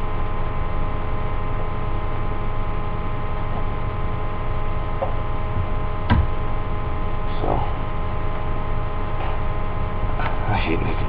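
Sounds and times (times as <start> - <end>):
steady electrical hum with hiss: 0.0 - 11.0.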